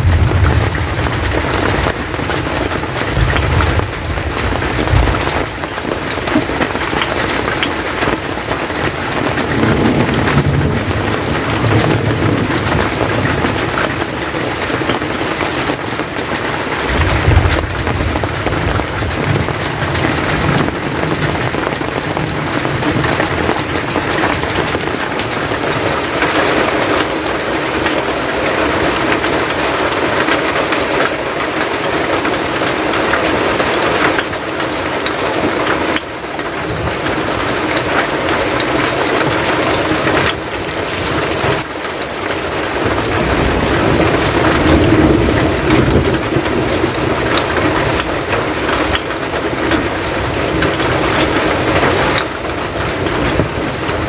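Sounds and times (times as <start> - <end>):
rain falling on roof: 0.0 - 54.0.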